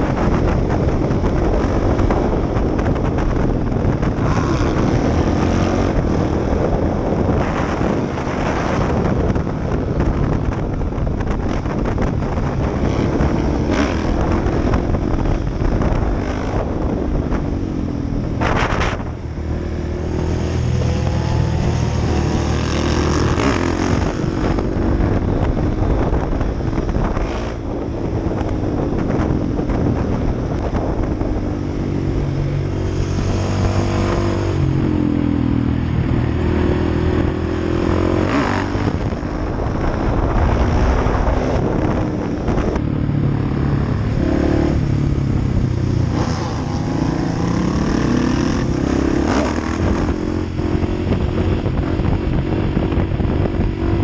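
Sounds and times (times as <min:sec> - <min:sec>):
motorcycle engine accelerating: 0:00.0 - 0:54.0
wind noise: 0:00.0 - 0:54.0.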